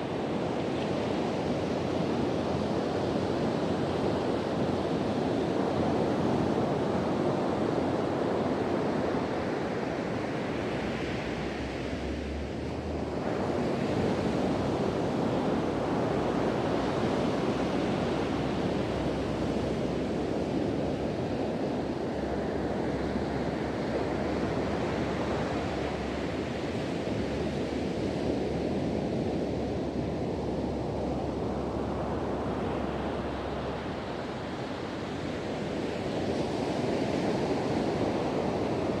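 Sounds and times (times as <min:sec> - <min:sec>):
waves breaking on beach: 0:00.0 - 0:39.0
wind rumbling on microphone: 0:00.0 - 0:39.0.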